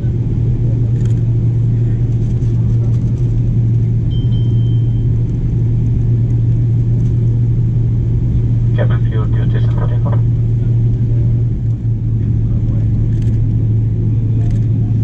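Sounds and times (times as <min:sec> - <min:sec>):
airplane taxiing rumble: 0:00.0 - 0:15.0.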